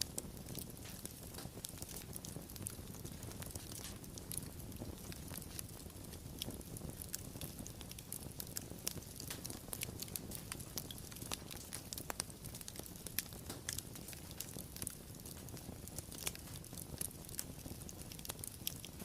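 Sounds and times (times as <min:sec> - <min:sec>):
fire crackling: 0:00.0 - 0:19.0
low rumble of flames: 0:00.0 - 0:19.0.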